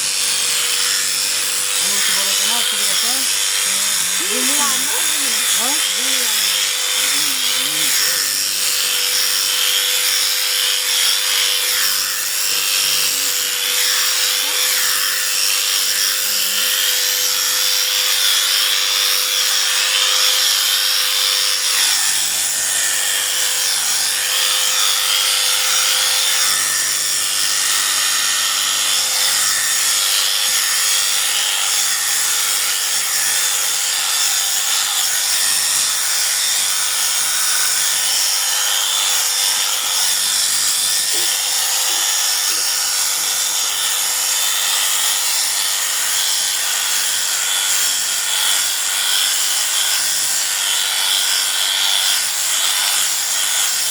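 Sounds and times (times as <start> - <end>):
electric clippers buzzing: 0.0 - 53.9.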